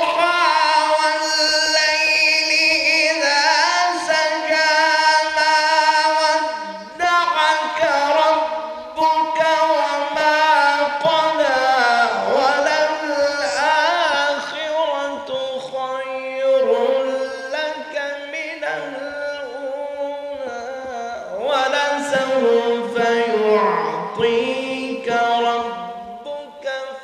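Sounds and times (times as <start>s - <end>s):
man chanting recitation: 0.0s - 27.0s.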